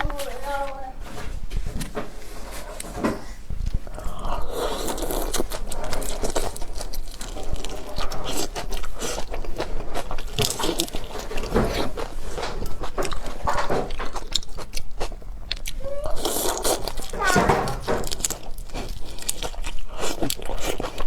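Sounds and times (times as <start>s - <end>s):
chewing with wet crunches: 3.6s - 21.0s.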